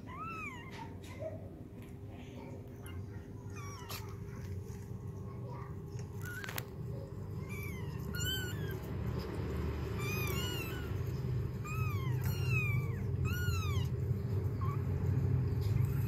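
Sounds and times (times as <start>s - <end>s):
kittens mewing: 0.0s - 16.0s
low steady rumble: 0.0s - 16.0s.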